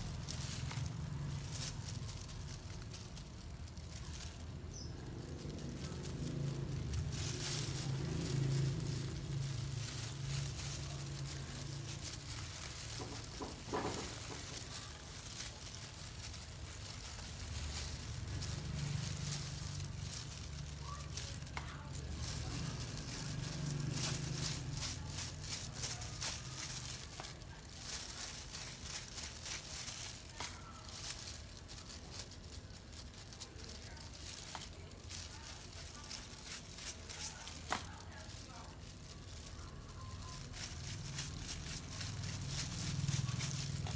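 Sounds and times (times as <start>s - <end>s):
brush scratching through hair: 0.0s - 43.9s
plastic gloves crinkling: 0.0s - 43.9s.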